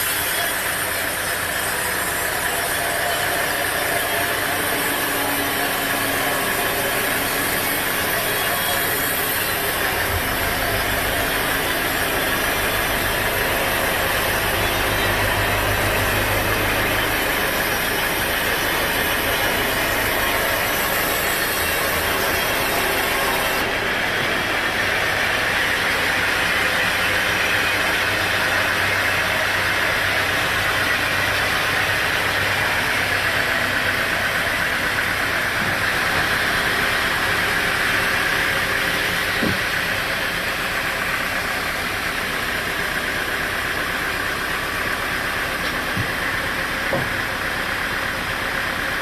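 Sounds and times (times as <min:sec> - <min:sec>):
sawmill machinery whirring: 0:00.0 - 0:49.0.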